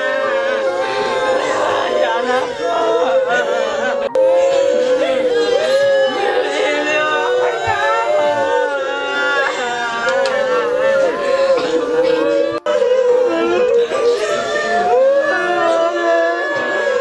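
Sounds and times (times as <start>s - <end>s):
high wavering wail: 0.0s - 17.0s
people wailing and crying: 0.0s - 17.0s.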